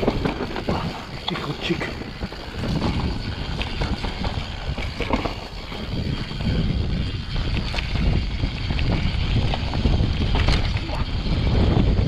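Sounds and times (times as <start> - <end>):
bike clicks and knocks: 0.0 - 12.0
tyres rumbling over dirt: 0.0 - 12.0
wind buffeting microphone: 0.0 - 12.0.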